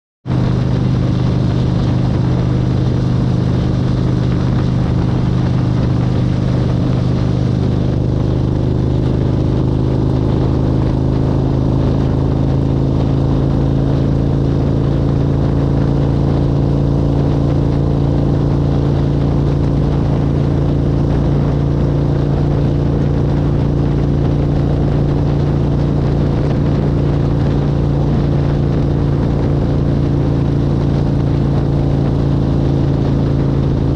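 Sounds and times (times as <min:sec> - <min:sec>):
car engine drone: 0:00.2 - 0:33.9
road and tyre noise: 0:00.2 - 0:33.9.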